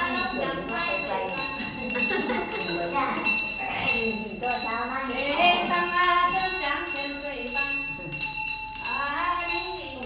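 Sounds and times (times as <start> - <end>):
jingle bells shaken: 0.0 - 10.0.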